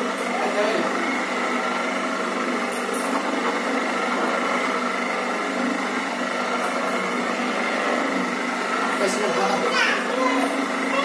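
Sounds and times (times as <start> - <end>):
electric motor and gearbox humming: 0.0 - 11.0.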